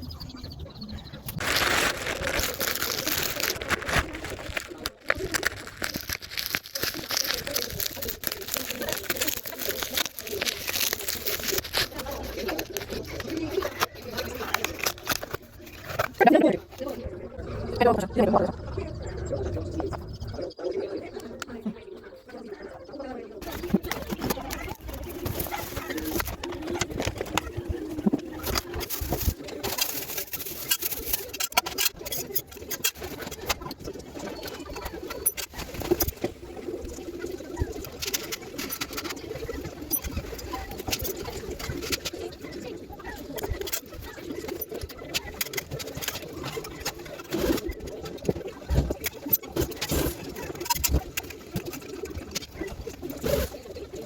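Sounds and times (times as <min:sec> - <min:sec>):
plastic packaging crinkling: 0:01.3 - 0:17.0, 0:23.4 - 0:53.7.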